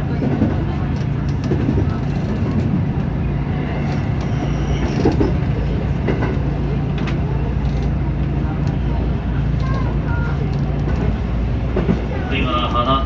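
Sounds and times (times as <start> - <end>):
electric train running hum: 0.0 - 13.0.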